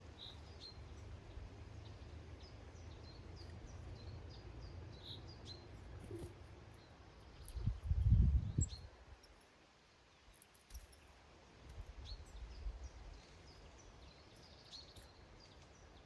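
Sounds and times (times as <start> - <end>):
songbirds chirping: 0.0 - 8.9, 11.6 - 16.0.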